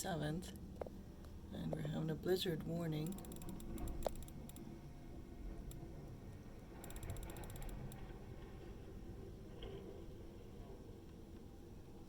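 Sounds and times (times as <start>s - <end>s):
blizzard wind through window: 0.0s - 12.0s.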